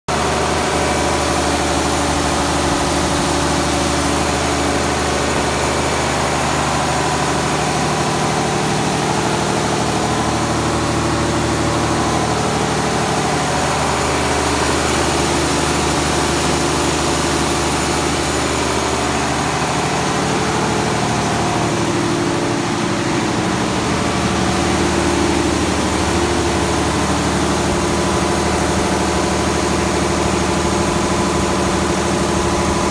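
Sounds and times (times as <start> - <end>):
diesel engine running: 0.1 - 32.9.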